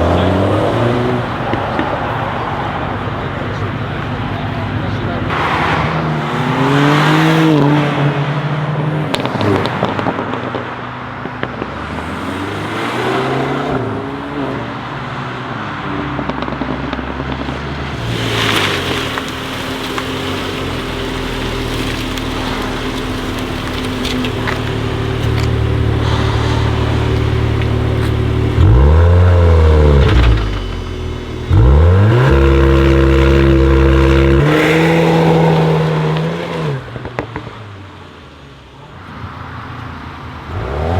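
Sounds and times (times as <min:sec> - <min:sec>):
car engine revving: 0:00.0 - 0:37.4.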